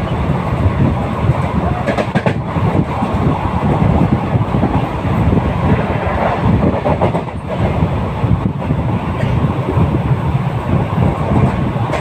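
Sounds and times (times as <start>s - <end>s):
passenger train running on track: 0.0s - 12.0s.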